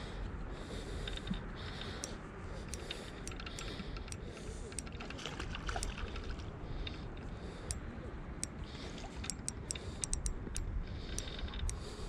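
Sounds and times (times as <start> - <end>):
fishing reel ticking: 0.8 - 7.8, 8.4 - 12.0.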